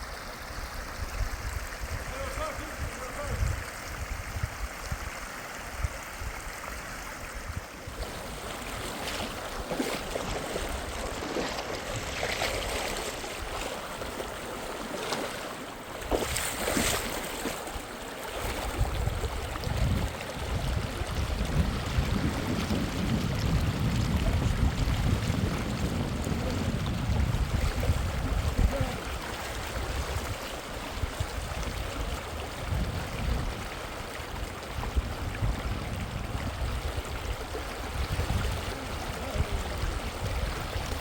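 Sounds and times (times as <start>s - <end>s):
wind rumbling on microphone: 0.0s - 15.0s, 16.0s - 41.0s
fast river water rushing: 0.0s - 41.0s.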